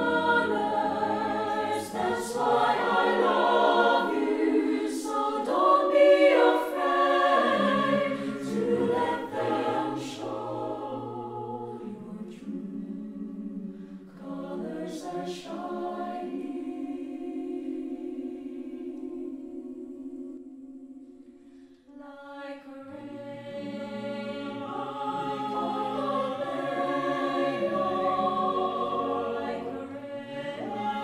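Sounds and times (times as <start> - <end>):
mixed choir singing a ballad: 0.0 - 31.0.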